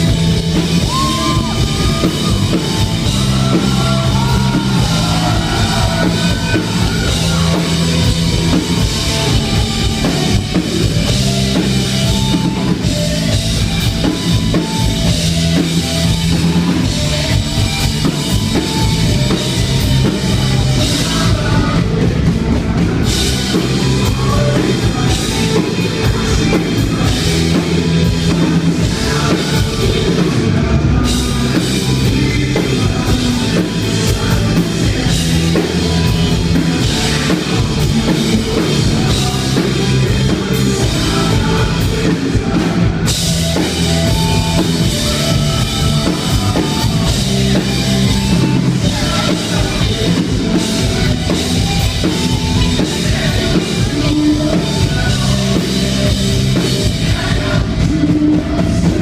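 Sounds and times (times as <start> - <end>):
drum kit: 0.0 - 59.0
rock band playing live: 0.0 - 59.0.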